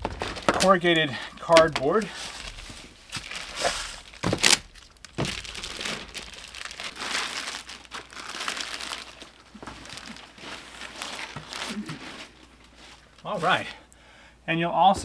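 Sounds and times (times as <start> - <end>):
plastic and foam packaging crinkling: 0.0 - 13.8.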